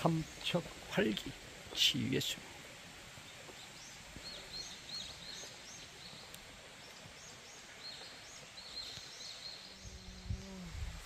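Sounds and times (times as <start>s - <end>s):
small songbird chirping: 0.0s - 10.6s
steady background hiss: 0.0s - 11.0s.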